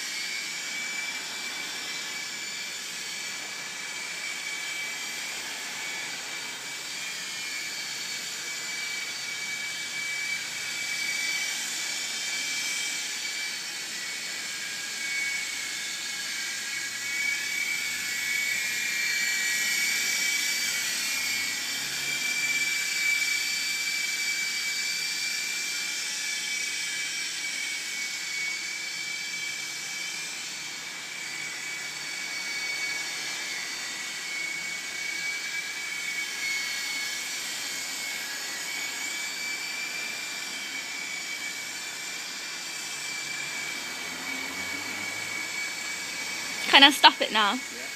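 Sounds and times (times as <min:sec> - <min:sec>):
rc helicopter whining: 0:00.0 - 0:47.9.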